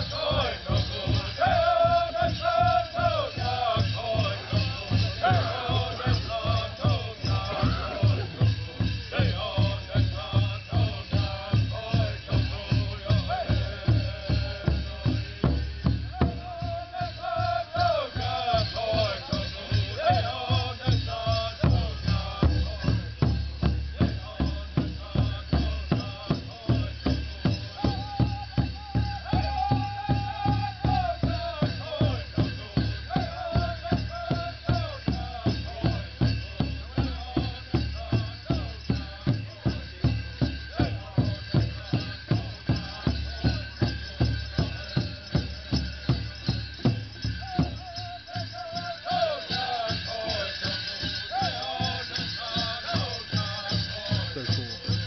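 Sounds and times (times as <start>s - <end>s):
high wavering chant singing: 0.0s - 55.0s
jingling rattle: 0.0s - 55.0s.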